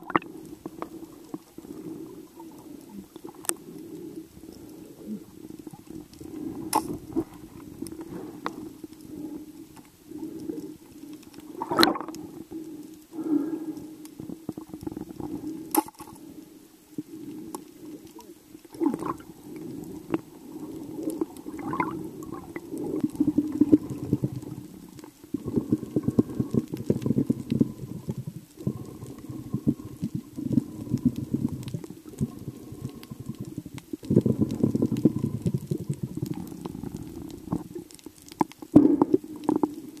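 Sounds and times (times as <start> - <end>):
underwater water rush and bubbling: 0.0 - 13.8, 17.1 - 40.0
underwater crackling: 0.0 - 40.0.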